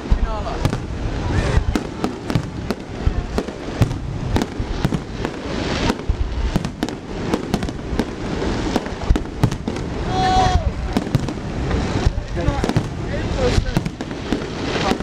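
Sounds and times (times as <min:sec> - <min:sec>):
firework bangs: 0:00.0 - 0:15.0
firework crackling: 0:00.0 - 0:15.0.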